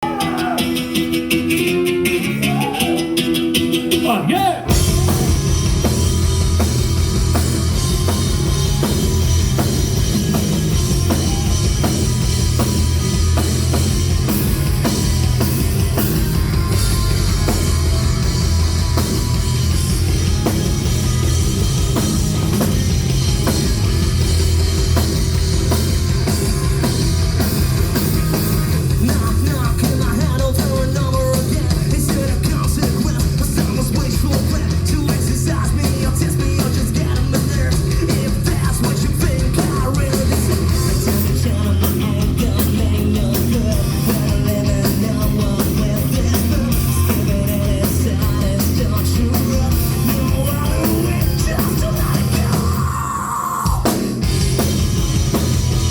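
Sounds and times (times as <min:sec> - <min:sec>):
drum kit driving beat: 0:00.0 - 0:55.9
metal band playing live: 0:00.0 - 0:55.9.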